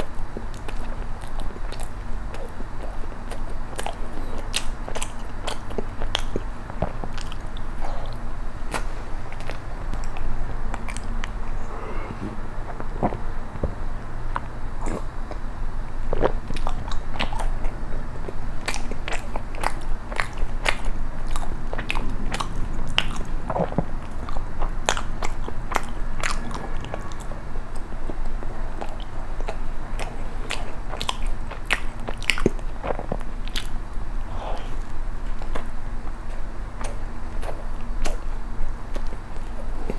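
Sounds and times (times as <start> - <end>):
biting and chewing bread: 0.0 - 38.3.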